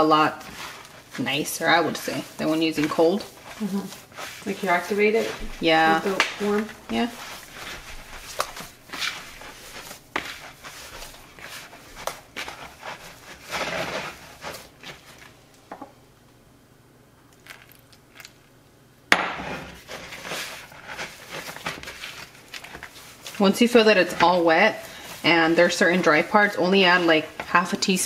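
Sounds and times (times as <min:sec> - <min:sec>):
hands squishing dough: 0:00.0 - 0:15.4, 0:19.1 - 0:28.0.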